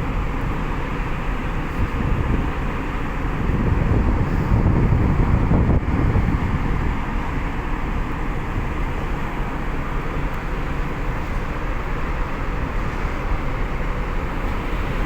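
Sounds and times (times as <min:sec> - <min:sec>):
heavy ship machinery rumble: 0:00.0 - 0:15.0
wind buffeting microphone: 0:01.5 - 0:15.0.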